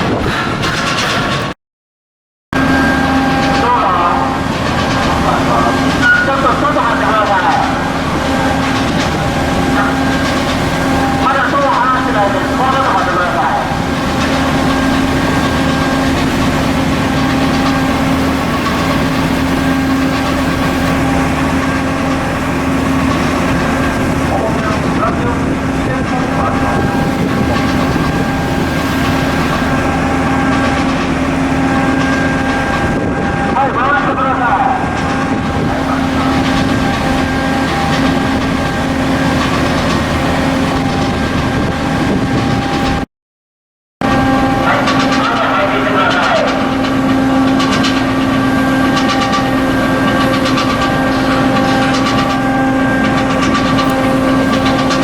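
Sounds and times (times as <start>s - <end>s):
ship engine droning: 0.0s - 1.6s, 2.5s - 43.1s, 44.0s - 55.0s.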